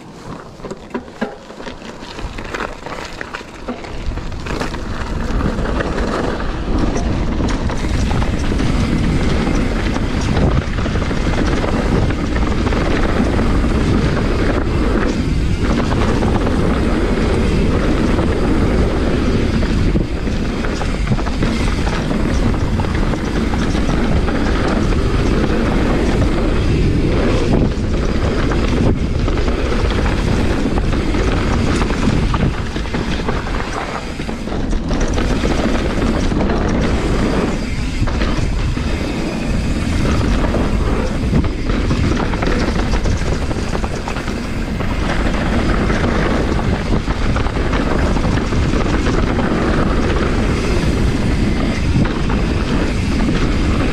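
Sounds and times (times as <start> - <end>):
bike rattling and knocking: 0.0 - 53.9
low tyre rumble: 0.0 - 53.9
wind rushing over microphone: 1.8 - 53.9.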